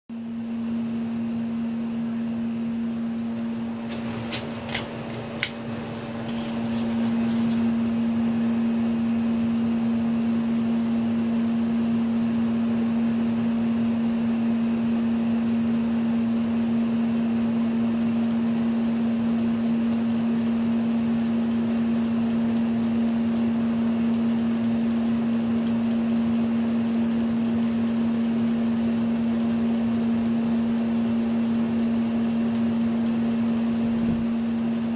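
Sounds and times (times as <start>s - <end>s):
ceiling fan motor humming: 0.1s - 34.9s.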